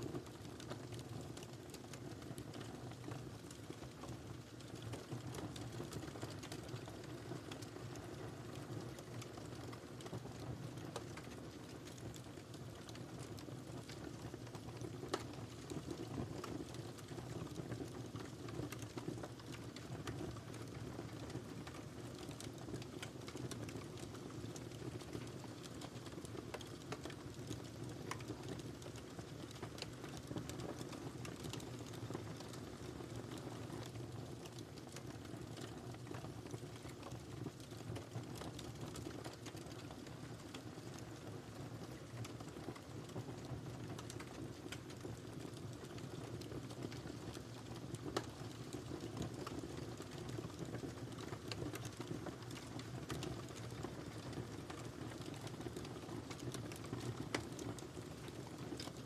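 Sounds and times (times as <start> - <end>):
fire rumbling with crackles and pops: 0.0 - 59.0.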